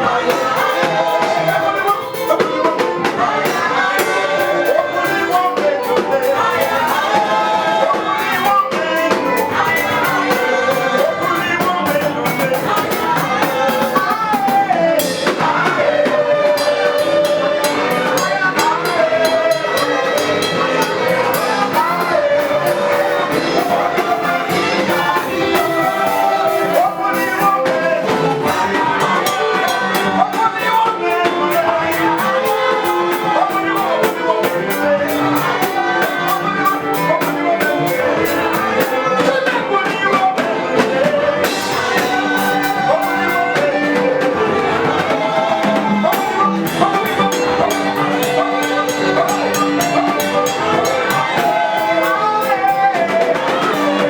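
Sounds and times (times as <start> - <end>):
gospel band with drums: 0.0 - 54.0
people singing: 0.0 - 54.0.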